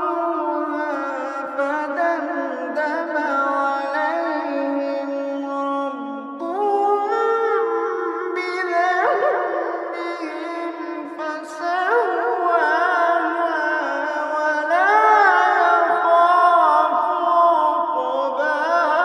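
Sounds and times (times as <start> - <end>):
person chanting recitation: 0.0 - 19.0.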